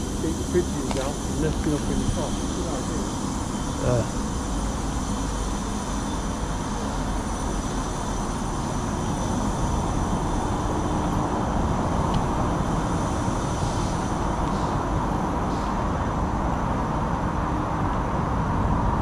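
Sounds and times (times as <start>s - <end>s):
machinery rumbling: 0.0s - 17.8s
faint high whines: 0.0s - 19.0s.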